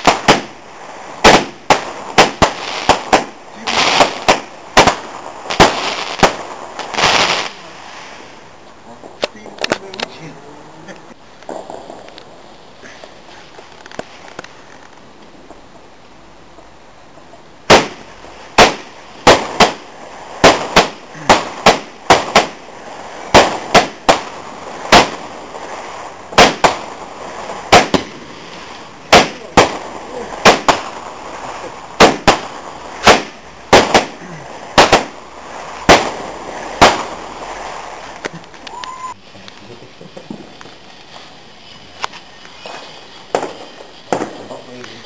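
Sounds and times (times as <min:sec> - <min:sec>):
fireworks banging: 0:00.0 - 0:45.0.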